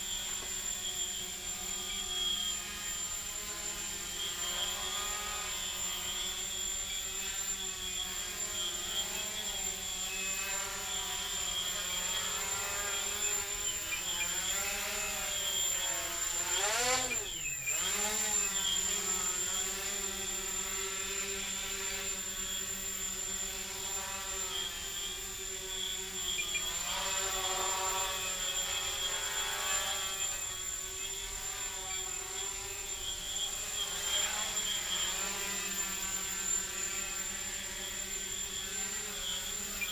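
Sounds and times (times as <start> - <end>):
quadcopter motors buzzing whine: 0.0 - 39.9.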